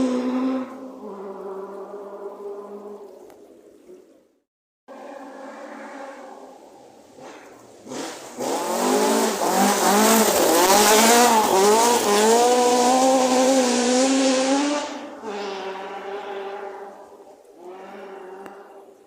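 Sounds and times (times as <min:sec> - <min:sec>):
rally car engine passing: 0:00.0 - 0:02.4, 0:04.9 - 0:19.0.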